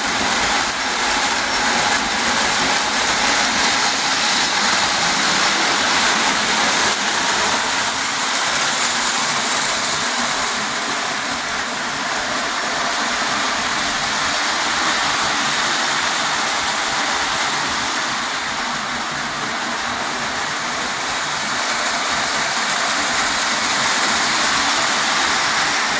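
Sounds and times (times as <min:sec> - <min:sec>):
model trains rolling rumble: 0:00.0 - 0:25.9.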